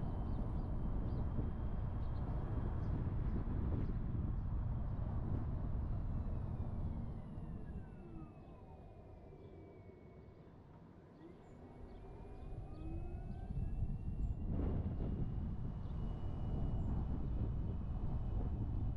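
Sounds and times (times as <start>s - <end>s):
car road and wind rumble: 0.0s - 8.6s, 11.9s - 18.9s.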